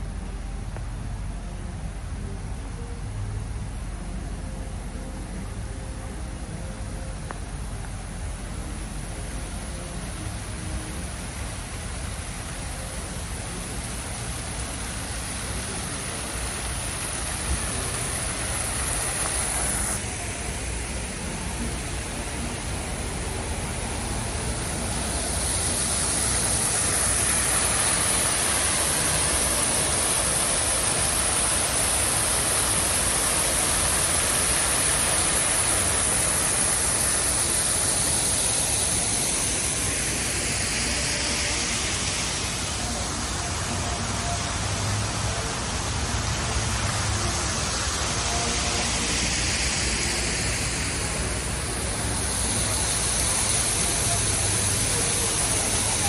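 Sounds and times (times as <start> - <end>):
waterfall rushing into pond: 0.0 - 56.0.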